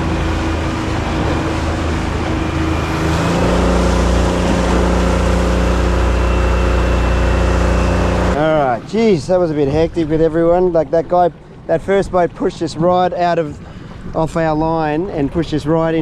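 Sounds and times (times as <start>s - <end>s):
boat engine running: 0.0s - 16.0s
wind and water rushing: 0.0s - 16.0s.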